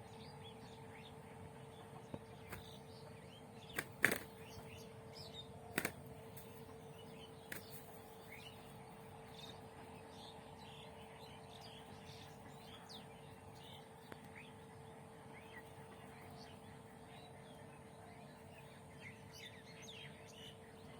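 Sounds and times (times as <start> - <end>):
small birds chirping: 0.0 - 20.9
steady low hum: 0.0 - 20.9.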